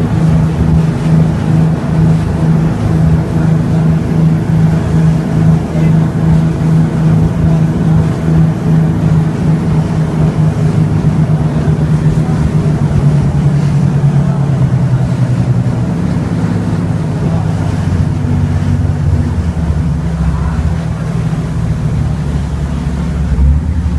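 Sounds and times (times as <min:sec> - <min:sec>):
motorboat engine drone: 0:00.0 - 0:23.9.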